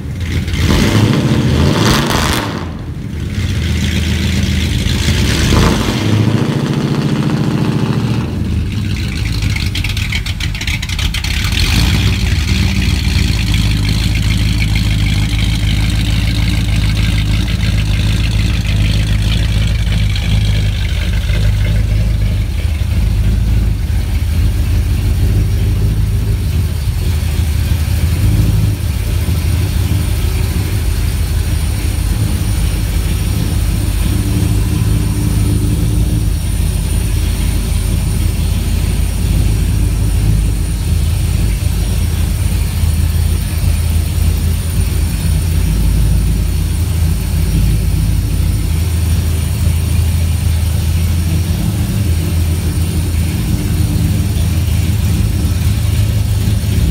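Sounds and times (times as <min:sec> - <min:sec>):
engine idling exhaust rumble: 0:00.0 - 0:56.9.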